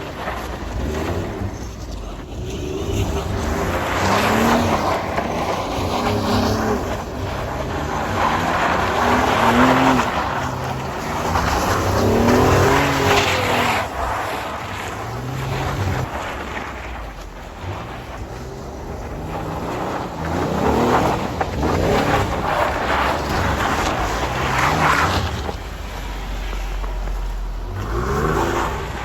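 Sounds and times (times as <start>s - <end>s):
vehicle engine revving: 0.0s - 29.0s
wheels spinning on snow: 0.0s - 29.0s.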